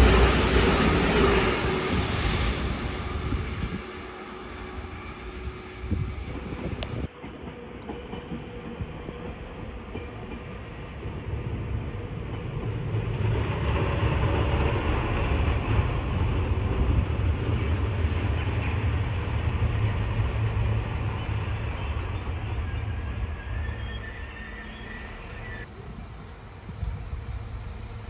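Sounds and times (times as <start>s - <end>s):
diesel railcar engine rumble: 0.0s - 28.0s
train wheel noise: 0.0s - 28.0s.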